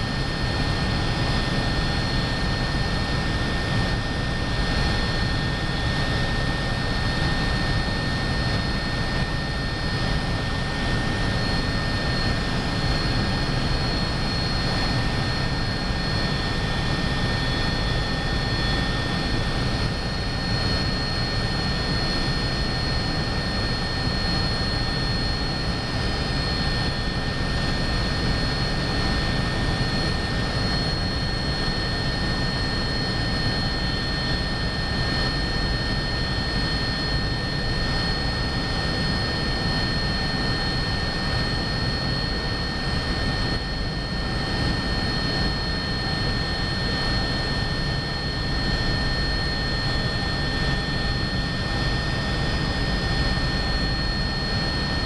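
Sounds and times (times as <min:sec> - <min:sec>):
helicopter low rumble: 0:00.0 - 0:55.0.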